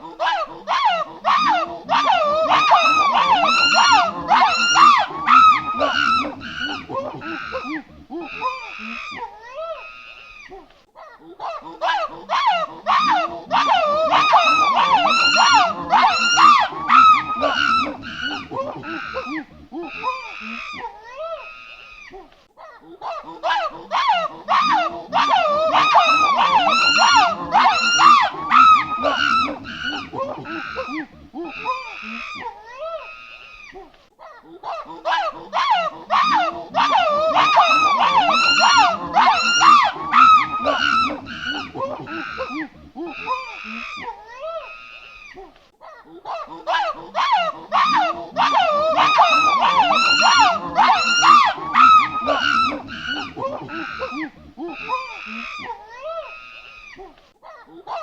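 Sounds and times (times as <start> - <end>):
monkeys calling: 0.0 - 10.8, 11.4 - 22.2, 22.8 - 33.8, 34.4 - 45.4, 46.2 - 57.2.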